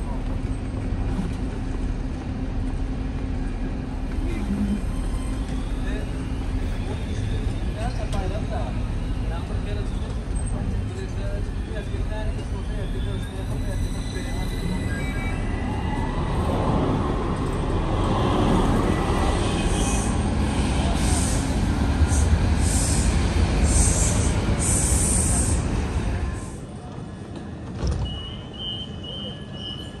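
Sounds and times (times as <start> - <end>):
tram rumbling: 0.0 - 30.0.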